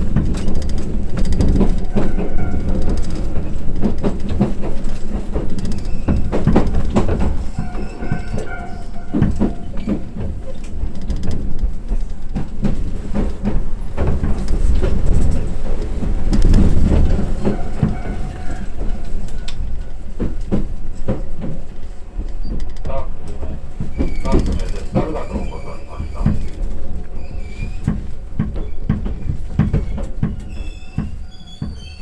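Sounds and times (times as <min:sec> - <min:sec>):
train rumbling on track: 0:00.0 - 0:32.0
wheels clicking over rail joints: 0:00.0 - 0:32.0.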